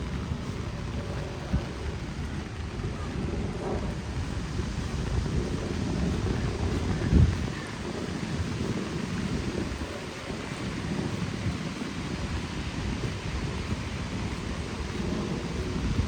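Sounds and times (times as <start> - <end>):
heavy rain falling: 0.0 - 16.0
wind buffeting microphone: 0.0 - 16.0.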